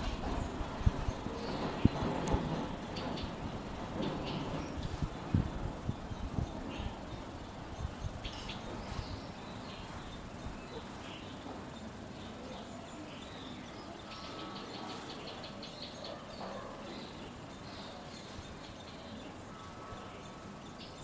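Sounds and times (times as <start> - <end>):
background hiss: 0.0 - 21.0
small birds chirping: 0.0 - 21.0.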